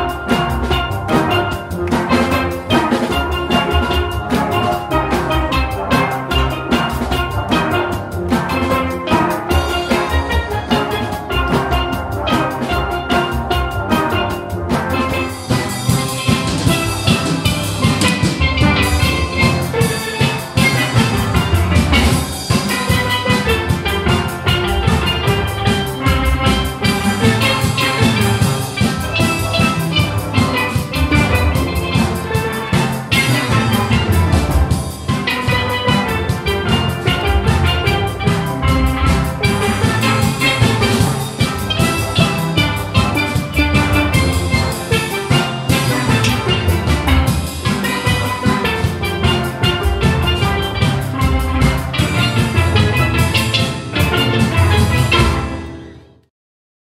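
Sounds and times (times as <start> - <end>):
steel band playing: 0.0 - 56.1.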